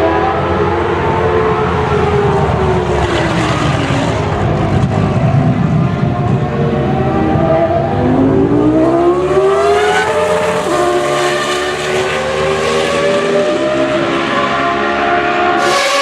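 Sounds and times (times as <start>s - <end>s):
racing car engine accelerating: 0.0s - 16.0s.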